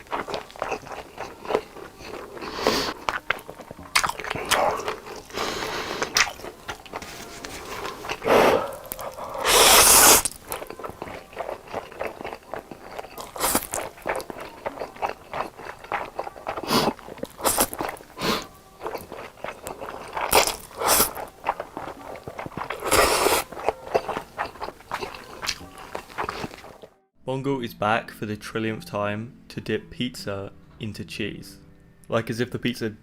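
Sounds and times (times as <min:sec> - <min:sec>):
crunching and chewing: 0:00.0 - 0:27.0.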